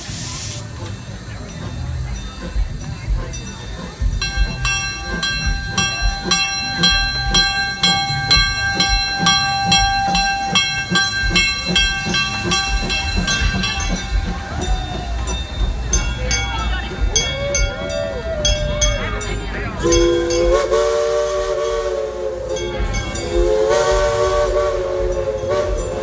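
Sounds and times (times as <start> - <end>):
moving train rumbling: 0.0 - 26.0
steam locomotive chime whistle: 0.0 - 26.0.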